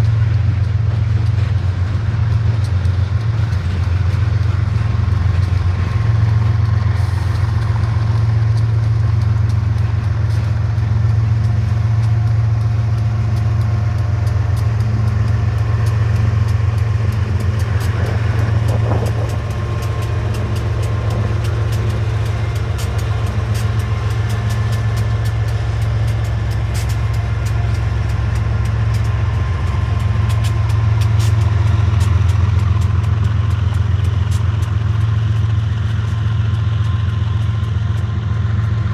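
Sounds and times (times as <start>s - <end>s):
diesel locomotive engine humming: 0.0s - 38.9s
light ticks: 7.6s - 38.8s.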